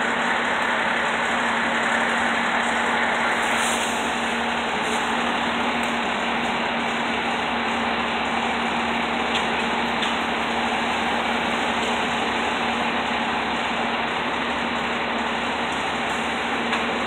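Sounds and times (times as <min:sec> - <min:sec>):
diesel engine idling: 0:00.0 - 0:17.0
street noise: 0:00.0 - 0:17.0.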